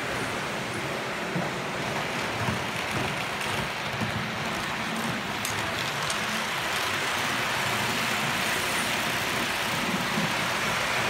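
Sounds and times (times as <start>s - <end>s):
model train wheels rolling: 0.0s - 11.0s.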